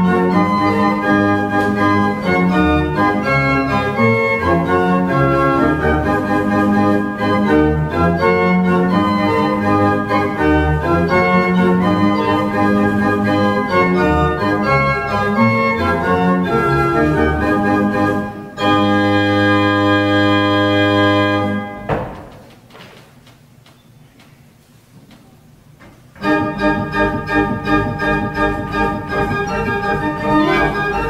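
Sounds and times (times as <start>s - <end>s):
pipe organ playing a dance: 0.0s - 21.9s, 26.2s - 31.0s.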